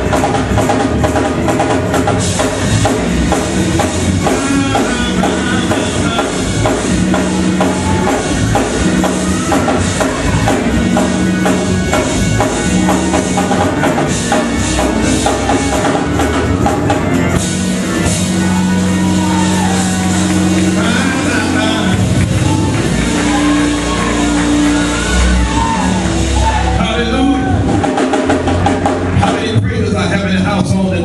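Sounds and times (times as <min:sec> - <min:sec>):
upbeat praise music: 0:00.0 - 0:31.0.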